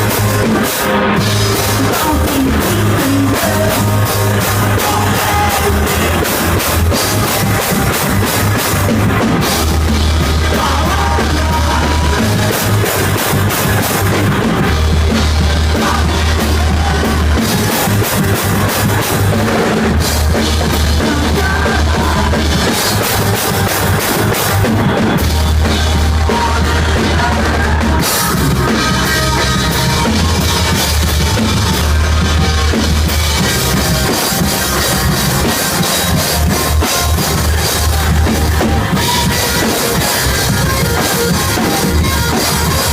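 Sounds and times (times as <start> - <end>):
deep bass notes: 0.0 - 42.9
drum kit: 0.0 - 42.9
rock band playing live: 0.0 - 42.9.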